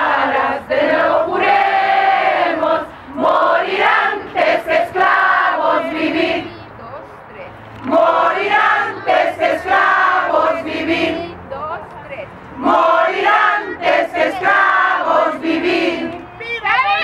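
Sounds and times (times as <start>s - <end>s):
crowd chanting in unison: 0.0s - 6.8s, 7.8s - 11.4s, 12.5s - 17.0s.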